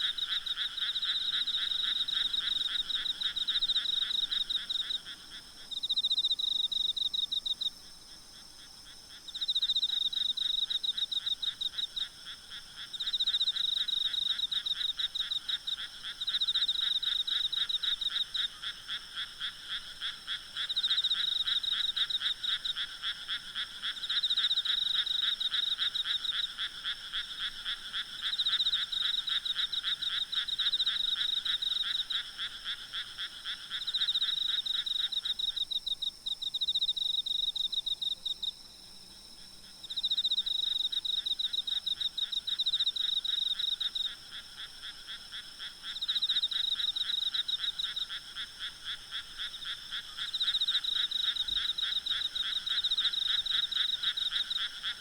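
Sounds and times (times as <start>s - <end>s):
frogs croaking: 0.0s - 55.0s.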